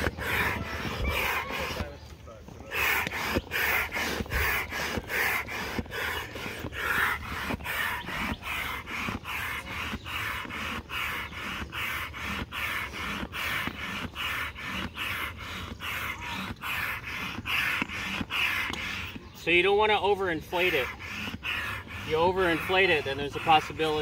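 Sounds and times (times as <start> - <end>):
hand air pump strokes: 0.0 - 24.0.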